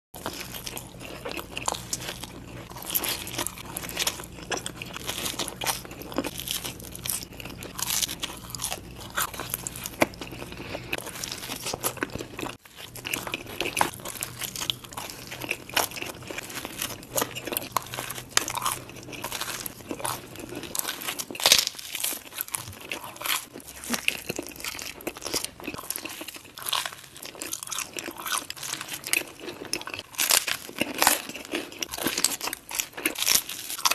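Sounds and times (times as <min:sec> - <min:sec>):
crunching and chewing pizza: 0:00.2 - 0:33.9.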